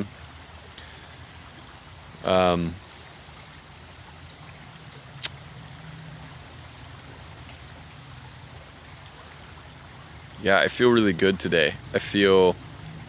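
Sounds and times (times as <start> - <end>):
creek running: 0.0 - 13.0.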